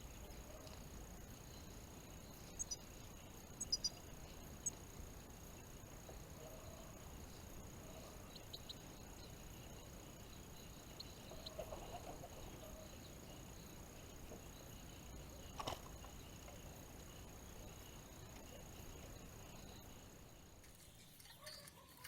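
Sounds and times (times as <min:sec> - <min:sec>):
faint high-pitched whine: 0:00.0 - 0:22.0
faint songbird chirps: 0:00.0 - 0:22.0.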